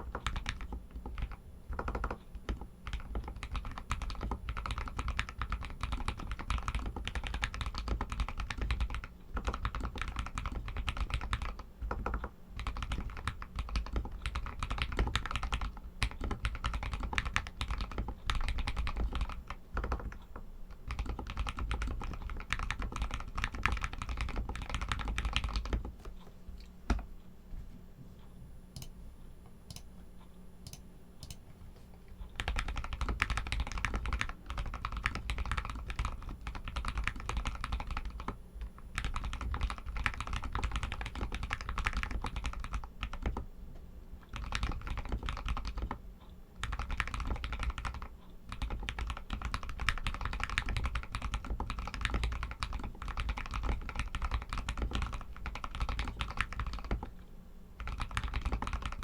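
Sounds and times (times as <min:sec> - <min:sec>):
mechanical keyboard typing: 0:00.0 - 0:26.1, 0:32.4 - 0:43.5, 0:44.3 - 0:46.0, 0:46.6 - 0:57.2, 0:57.8 - 0:59.0.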